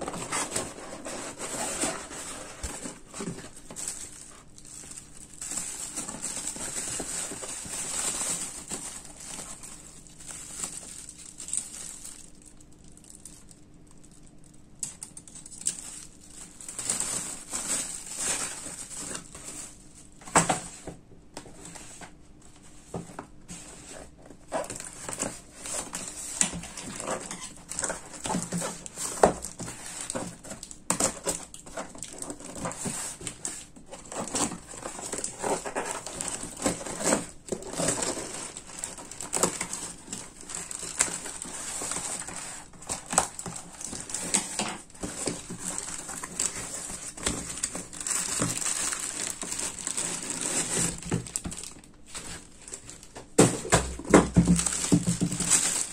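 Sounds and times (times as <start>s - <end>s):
cardboard rustling and clicking: 0.0s - 9.8s, 16.7s - 55.9s
plastic bag crinkling: 0.0s - 20.2s, 23.9s - 55.9s.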